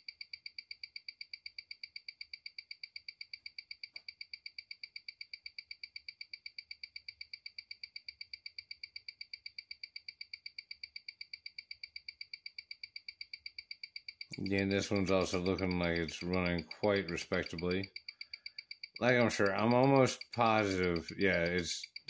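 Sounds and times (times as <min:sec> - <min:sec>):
mechanical watch ticking: 0:00.0 - 0:22.0.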